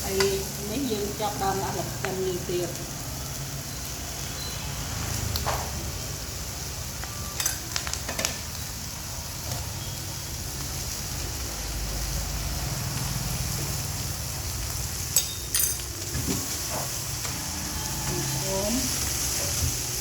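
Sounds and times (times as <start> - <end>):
noodles sizzling in a pan: 0.0 - 20.0.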